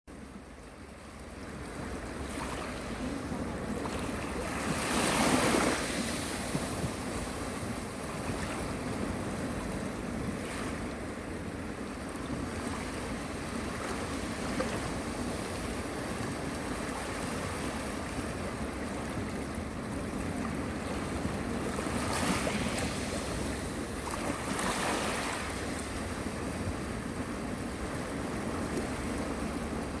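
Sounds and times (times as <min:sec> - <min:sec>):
sea waves washing ashore: 0:00.1 - 0:30.0.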